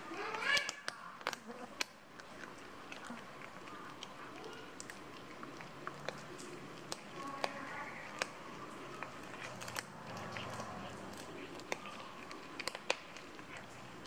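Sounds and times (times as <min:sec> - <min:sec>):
cats crunching fish bones: 0:00.0 - 0:14.0.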